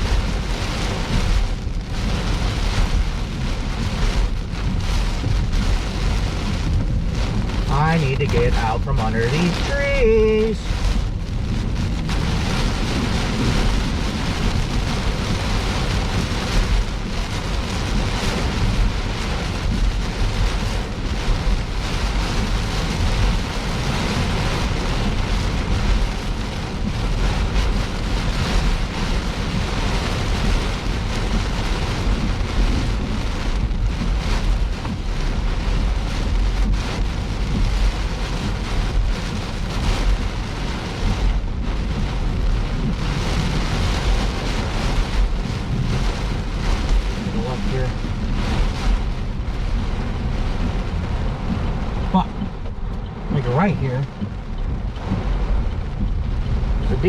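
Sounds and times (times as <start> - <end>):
rain falling on a car: 0.0 - 57.0
road and wind rumble: 0.0 - 57.0.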